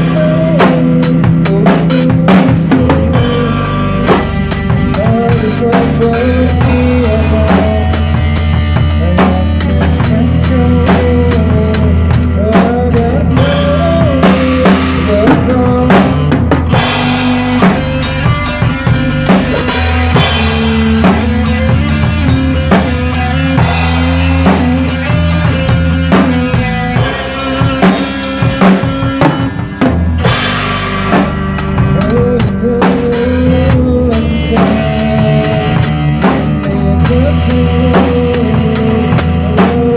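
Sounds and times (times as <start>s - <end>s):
acoustic drum kit: 0.0s - 39.9s
rock backing track: 0.0s - 39.9s.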